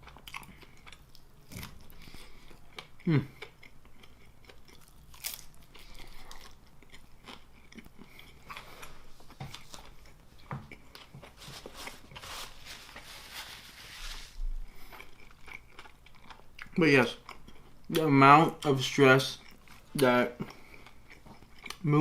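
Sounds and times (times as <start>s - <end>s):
person chewing pizza: 0.0s - 14.0s, 14.6s - 22.0s.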